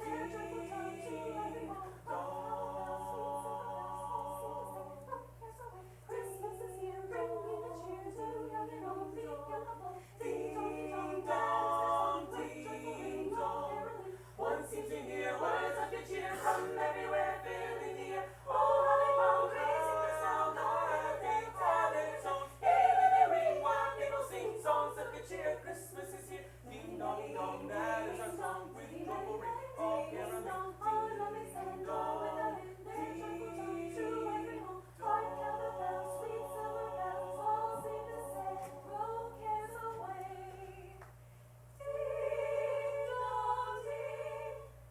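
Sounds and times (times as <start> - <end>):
small choir singing a cappella: 0.0 - 41.0, 41.6 - 44.9
steady low hum: 0.0 - 44.9.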